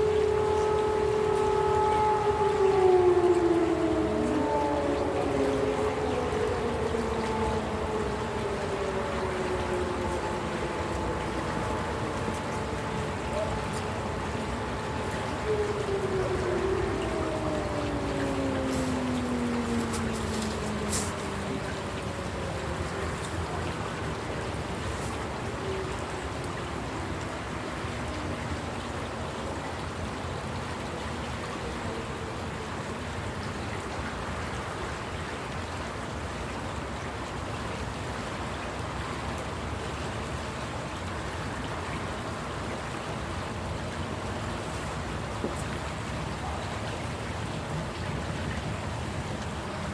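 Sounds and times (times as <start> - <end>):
distant fire sirens winding down: 0.0 - 49.9.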